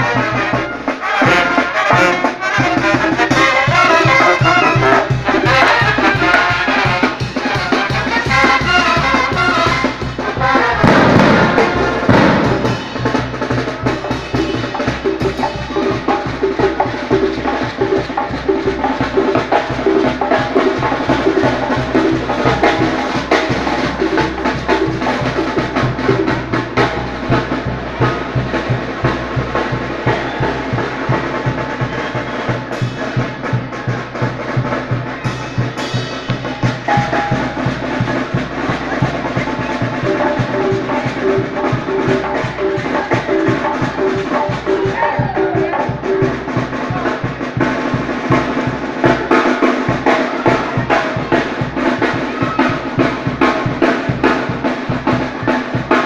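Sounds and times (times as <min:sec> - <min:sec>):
fast drum beat: 0:00.0 - 0:56.0
held brass notes: 0:00.0 - 0:56.0.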